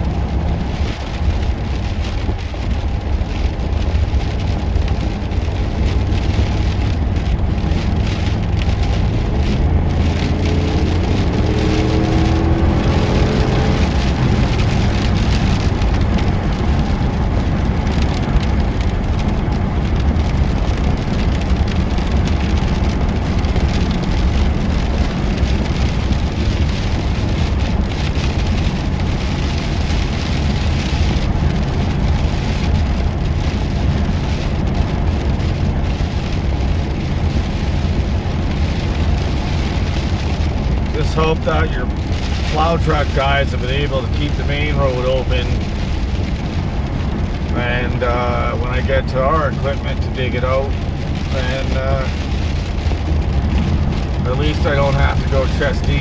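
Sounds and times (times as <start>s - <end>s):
truck engine and tyre rumble: 0.0s - 56.0s.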